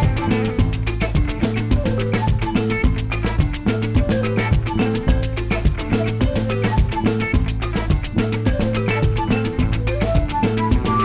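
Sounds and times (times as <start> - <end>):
background music with percussion and bass: 0.0 - 11.0.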